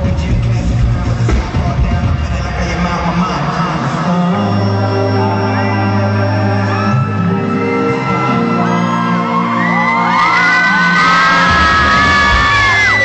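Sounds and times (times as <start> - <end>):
live pop music: 0.0 - 13.0
crowd screaming and whooping: 2.3 - 13.0.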